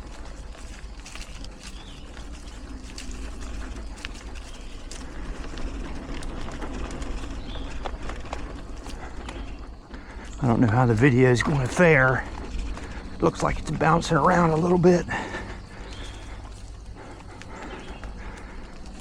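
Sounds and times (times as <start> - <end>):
bike clicks and rattles: 0.0 - 19.0
bike tyres rumbling on dirt: 0.0 - 19.0.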